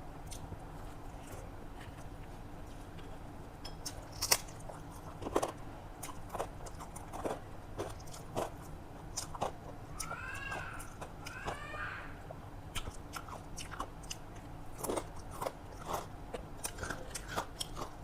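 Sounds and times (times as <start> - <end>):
chewing with crisp crunching: 0.2 - 18.0.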